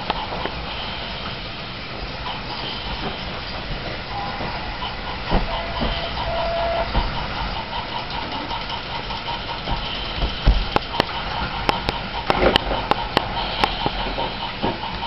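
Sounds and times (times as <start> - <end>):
steady low hum: 0.0 - 15.0
toy trains clicking on track: 0.0 - 15.0.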